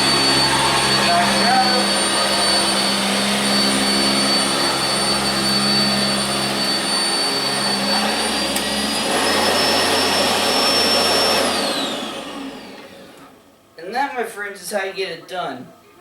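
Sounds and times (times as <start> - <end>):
vacuum motor winding down: 0.0 - 13.4
vacuum cleaner running on carpet: 0.0 - 13.5.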